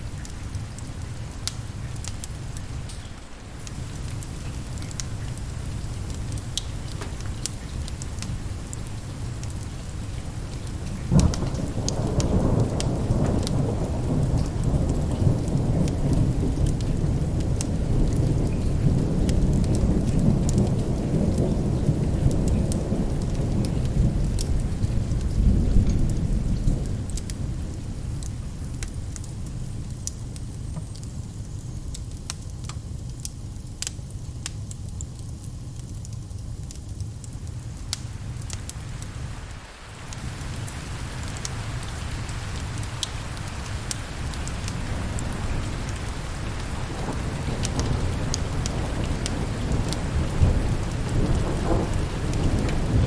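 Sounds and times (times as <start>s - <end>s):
thunder rumble: 0.0s - 29.9s, 37.8s - 53.0s
steady rain: 0.0s - 53.0s.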